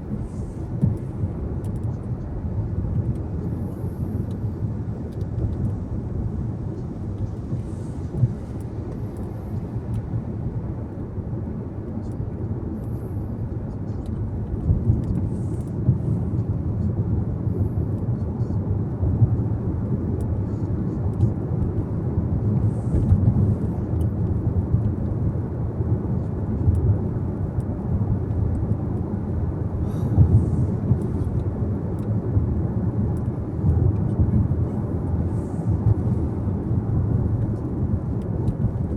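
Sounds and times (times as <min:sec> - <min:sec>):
car driving at speed: 0:00.0 - 0:38.9.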